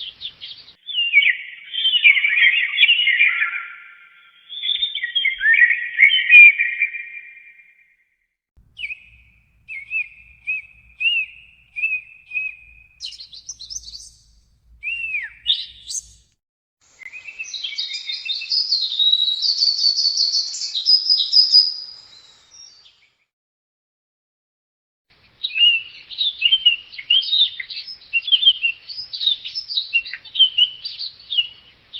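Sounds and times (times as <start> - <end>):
songbirds singing: 0.0 - 7.6, 8.6 - 16.3, 16.9 - 23.2, 25.2 - 31.9.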